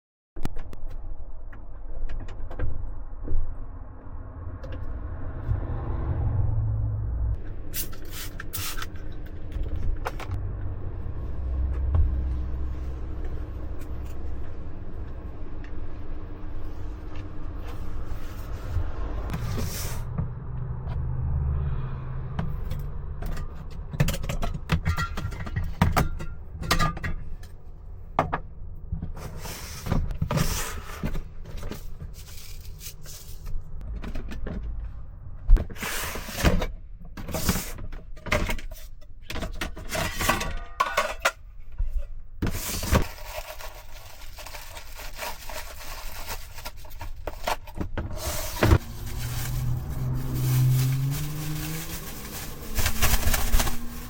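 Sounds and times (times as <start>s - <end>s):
low steady engine rumble: 1.4s - 35.6s, 41.0s - 54.0s.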